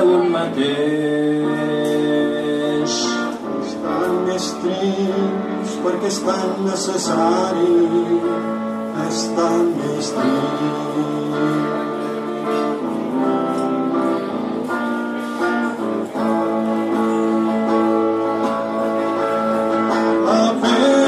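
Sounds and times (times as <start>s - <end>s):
acoustic guitar: 0.0s - 21.0s.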